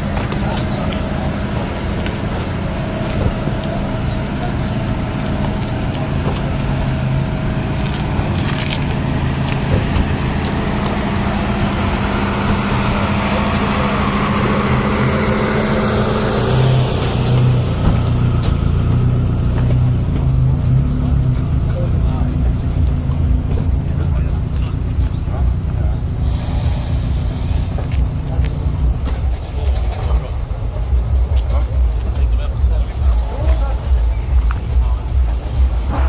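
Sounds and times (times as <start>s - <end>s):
car engine running: 0.0s - 36.0s
outdoor noise: 0.0s - 36.0s.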